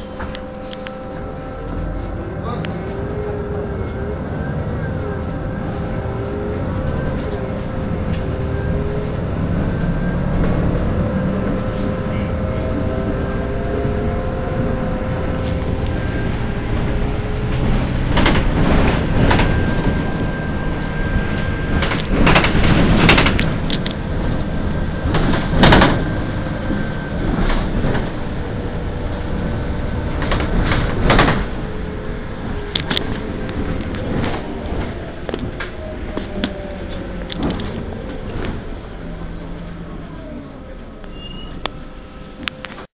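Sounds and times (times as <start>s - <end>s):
bus engine idling: 0.0s - 42.9s.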